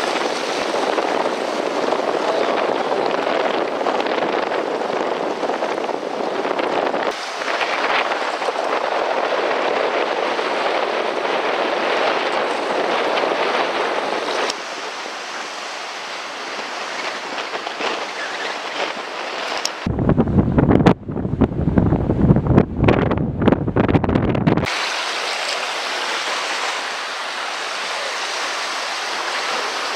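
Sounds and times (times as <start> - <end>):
choppy surf rushing: 0.0 - 29.9
wind buffeting microphone: 0.0 - 29.9.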